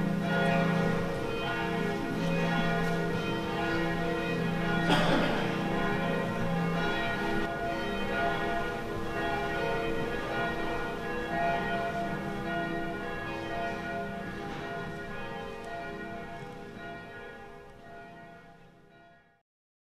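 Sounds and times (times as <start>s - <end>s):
church bells ringing: 0.0s - 19.4s.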